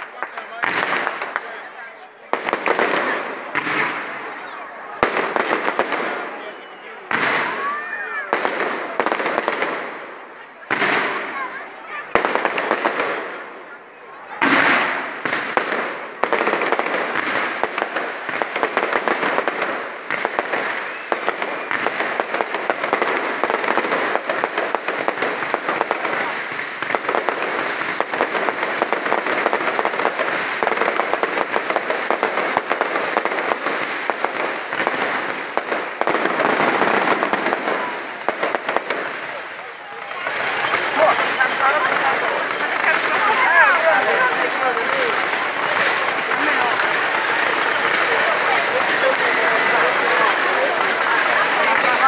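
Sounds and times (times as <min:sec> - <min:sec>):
fireworks crackling bangs and pops: 0:00.0 - 0:52.0.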